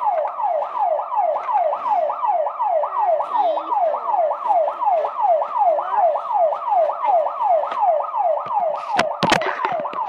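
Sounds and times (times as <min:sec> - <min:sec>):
car alarm siren: 0:00.0 - 0:10.0.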